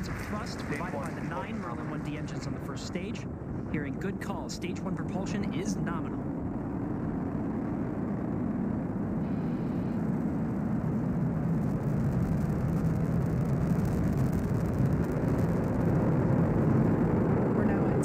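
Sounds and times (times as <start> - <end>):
faint rocket crackle: 0.0 - 18.0
rocket engines low rumble: 0.0 - 18.0.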